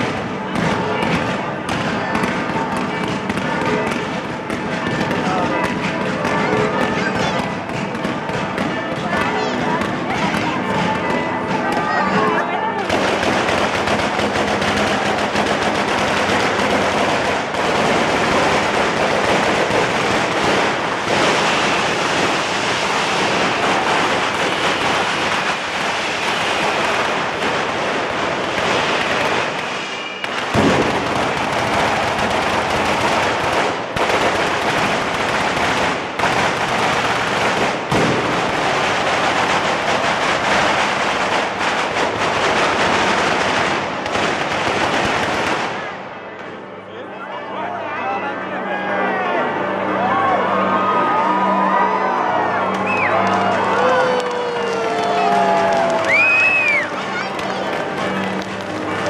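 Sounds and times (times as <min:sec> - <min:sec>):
fireworks crackling and banging: 0:00.0 - 0:46.9, 0:52.7 - 0:59.0.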